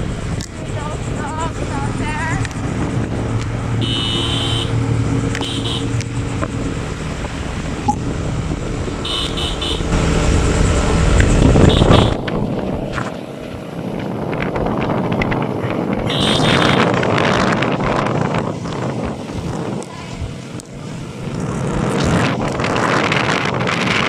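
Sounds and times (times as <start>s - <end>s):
motorbike engine rumble: 0.0s - 24.0s
wind rushing: 0.0s - 24.0s.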